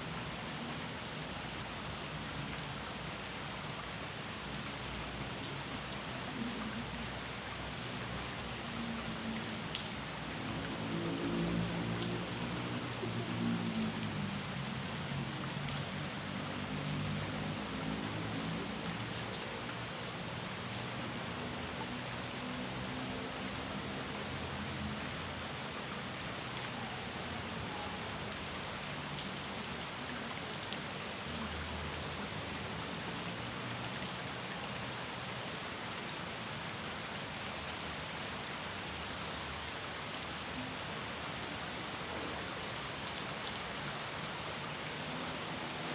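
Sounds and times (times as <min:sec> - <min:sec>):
rain falling on a pond: 0:00.0 - 0:45.9.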